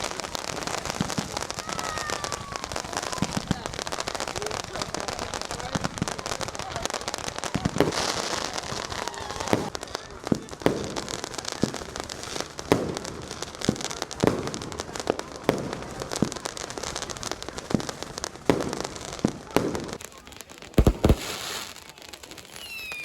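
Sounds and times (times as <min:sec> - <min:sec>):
firecracker crackle: 0:00.0 - 0:23.0
firework bangs: 0:00.0 - 0:23.0.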